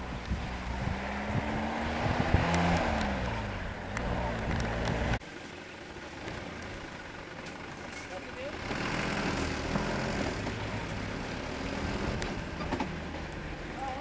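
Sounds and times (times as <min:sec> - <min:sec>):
vehicle engine running slowly: 0:00.0 - 0:14.0.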